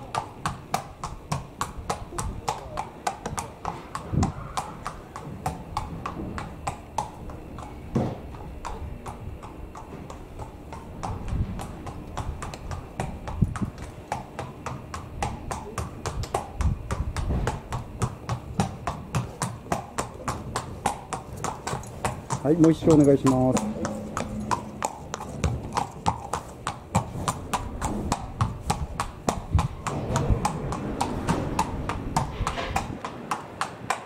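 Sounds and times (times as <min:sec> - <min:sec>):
horse hooves on concrete: 0:00.0 - 0:34.0.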